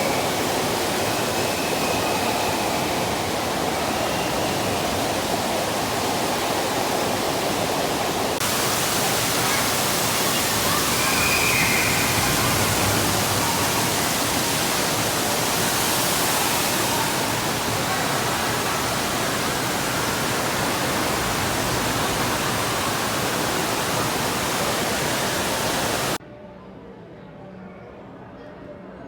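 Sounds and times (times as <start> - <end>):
steady rushing noise: 0.0 - 26.2.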